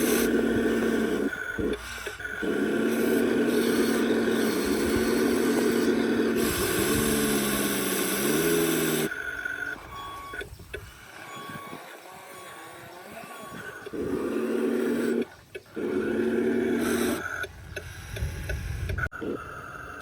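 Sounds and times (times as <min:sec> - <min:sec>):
model motor whine: 0:00.0 - 0:20.0.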